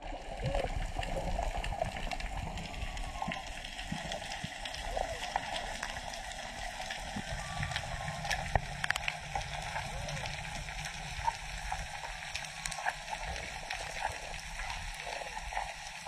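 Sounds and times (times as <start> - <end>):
sharp underwater clicks and crackles: 0.0 - 16.0
underwater hiss and rumble: 0.0 - 16.0.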